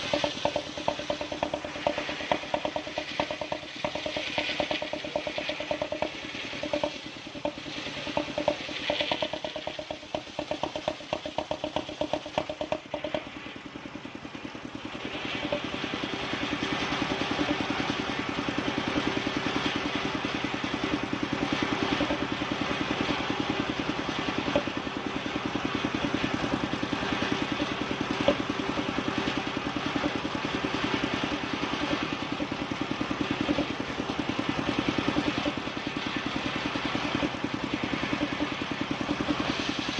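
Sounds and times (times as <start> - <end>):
sawing machine engine running: 0.0 - 39.9.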